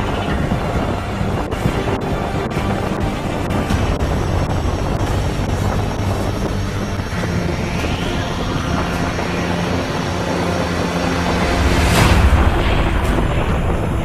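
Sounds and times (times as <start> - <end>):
loud machine drone: 0.0 - 14.0
whoosh: 0.0 - 14.0.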